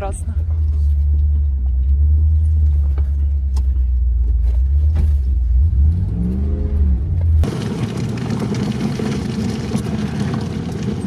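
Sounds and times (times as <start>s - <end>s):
engine: 0.0s - 11.0s
vehicle cabin low rumble: 0.0s - 11.0s.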